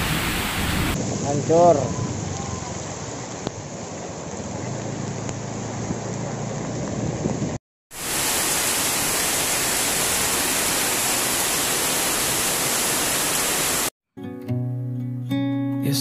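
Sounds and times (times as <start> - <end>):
heavy rain pouring: 0.0 - 13.9.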